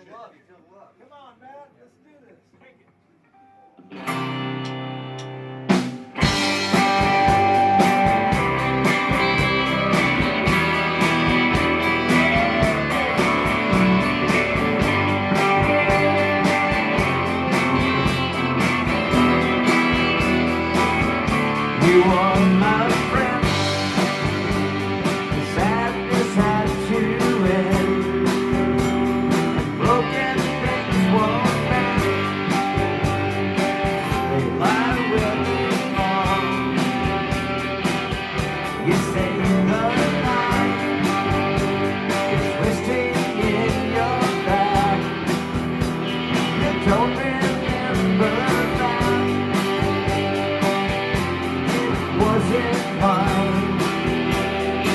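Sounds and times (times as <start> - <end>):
sliding lead guitar: 3.3 - 54.9
live rock band playing: 3.7 - 54.9
steady drum beat: 5.7 - 54.9.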